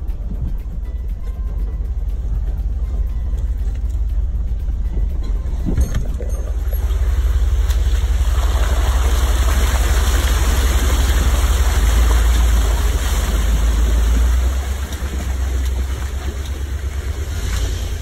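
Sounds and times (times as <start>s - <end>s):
vehicle low rumble: 0.0s - 18.0s
tires splashing through mud: 3.0s - 18.0s.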